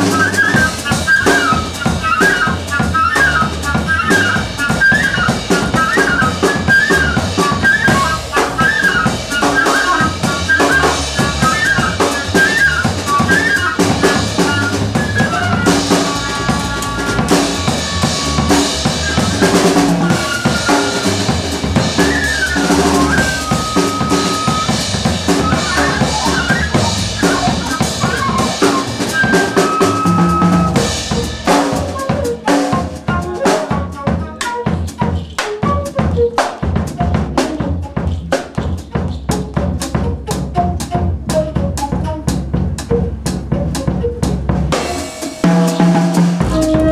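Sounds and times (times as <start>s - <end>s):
bass: 0.0s - 46.9s
drum kit fills: 0.0s - 46.9s
flute playing fast runs: 0.0s - 46.9s.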